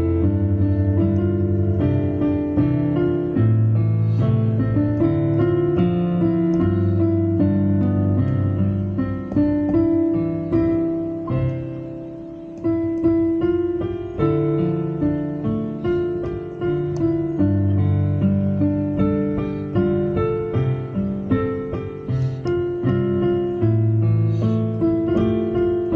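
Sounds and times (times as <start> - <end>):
piano chords and melody: 0.0 - 25.9.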